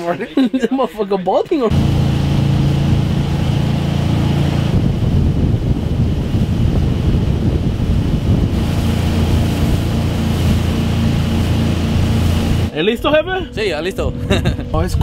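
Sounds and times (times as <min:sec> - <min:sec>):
boat engine running: 0:01.7 - 0:15.0
wind rushing over microphone: 0:01.7 - 0:15.0.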